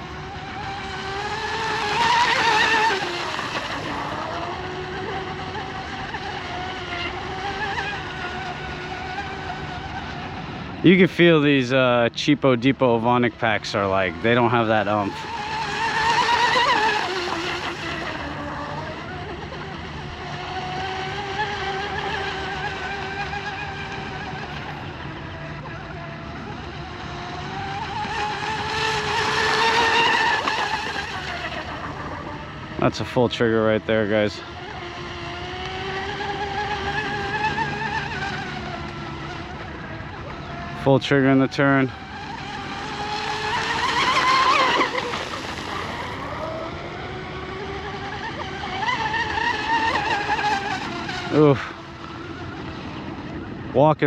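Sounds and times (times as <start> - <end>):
electric motor whining: 0.0 - 11.4, 13.0 - 53.8.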